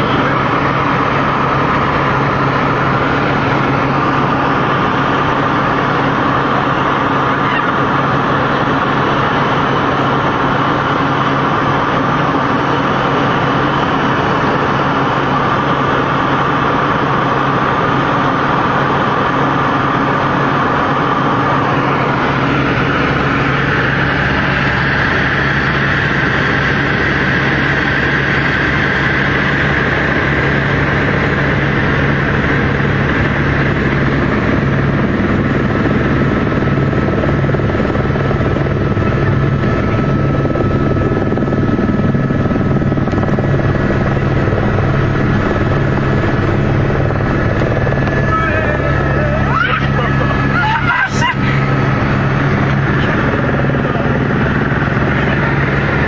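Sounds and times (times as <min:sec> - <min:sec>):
helicopter cabin drone: 0:00.0 - 0:56.0.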